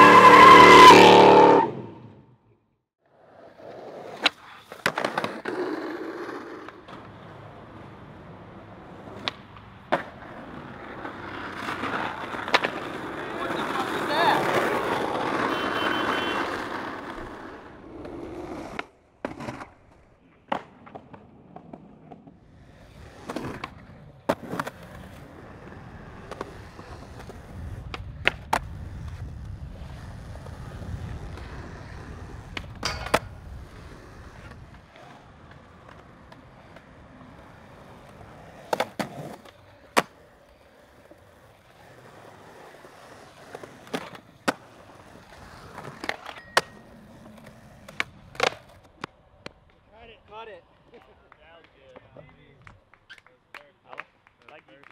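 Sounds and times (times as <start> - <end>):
road noise: 0.0 - 54.9
skateboard wheels rolling on concrete: 0.0 - 54.9
skateboard clacks: 4.0 - 7.9, 8.8 - 54.9.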